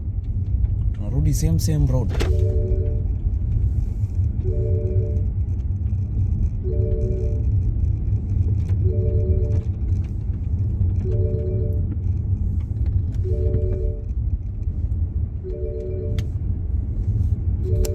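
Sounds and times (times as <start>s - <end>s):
car road and engine rumble: 0.0s - 17.9s.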